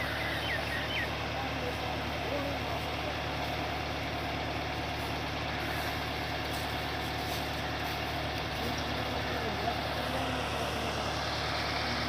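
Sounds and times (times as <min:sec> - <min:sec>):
tractor and threshing machine drone: 0:00.0 - 0:12.0.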